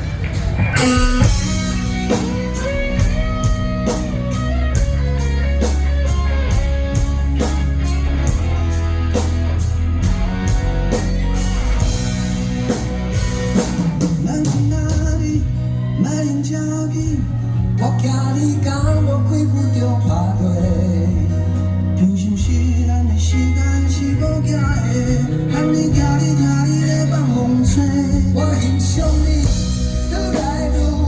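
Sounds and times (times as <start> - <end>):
drum kit with cymbal hits: 0.0 - 23.6, 24.2 - 31.0
bass and guitar melody: 0.0 - 31.0.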